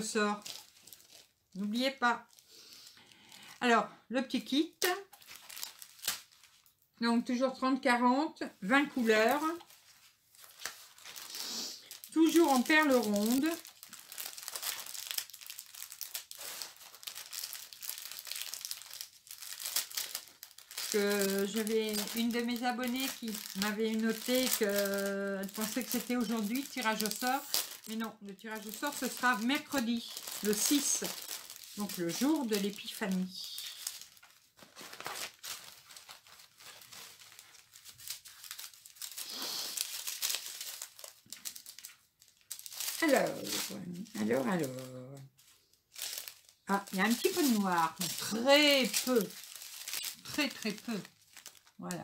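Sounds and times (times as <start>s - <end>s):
plastic packaging crinkling: 0.0s - 3.6s, 4.4s - 6.9s, 8.8s - 52.0s.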